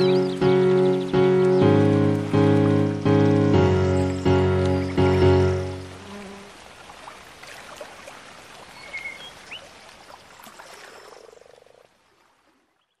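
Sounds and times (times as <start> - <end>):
hissy outdoor ambience: 0.0 - 12.2.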